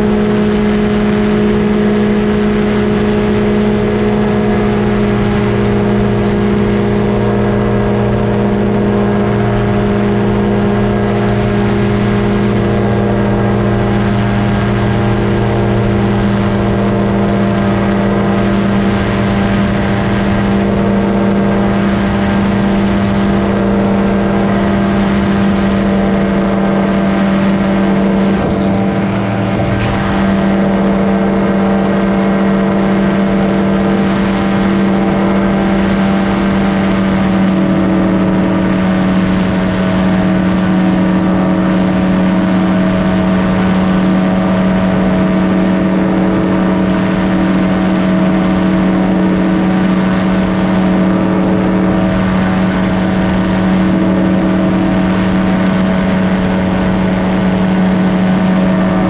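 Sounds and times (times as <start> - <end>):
engine and propeller running: 0.0 - 59.0.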